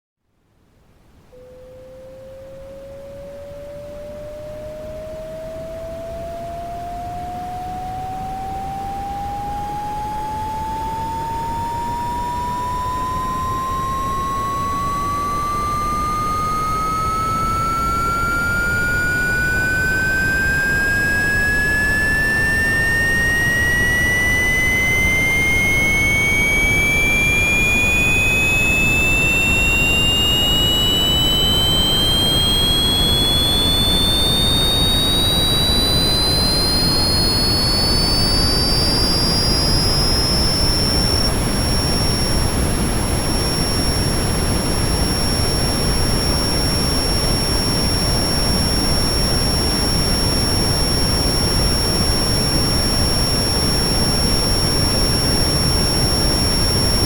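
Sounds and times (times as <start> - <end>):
high turbine whine: 1.2 - 57.0.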